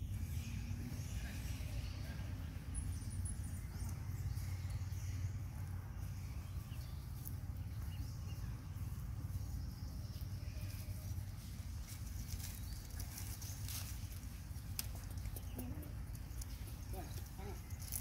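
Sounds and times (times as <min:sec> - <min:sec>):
dry leaves rustling: 0:00.0 - 0:18.0.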